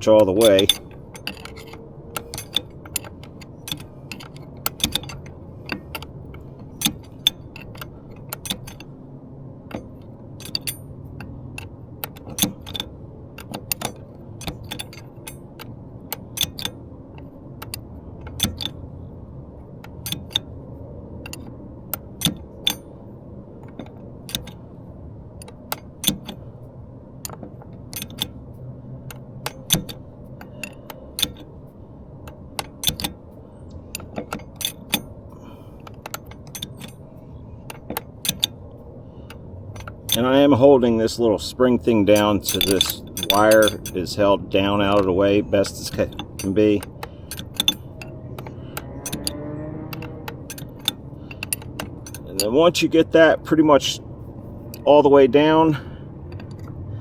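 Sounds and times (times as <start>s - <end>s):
wrench clinking against metal: 0.0s - 8.9s, 9.7s - 16.8s, 17.6s - 18.8s, 20.0s - 20.4s, 21.2s - 22.9s, 23.6s - 24.6s, 27.2s - 28.4s, 29.0s - 31.6s, 32.3s - 37.1s, 37.7s - 38.6s, 39.2s - 56.7s.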